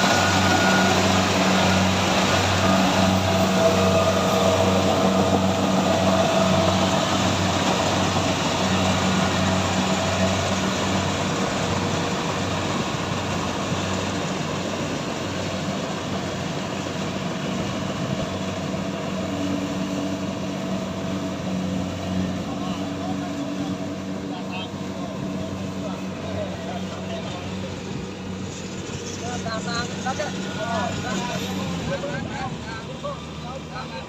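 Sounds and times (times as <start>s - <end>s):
harvesting machine engine hum: 0.0s - 34.0s.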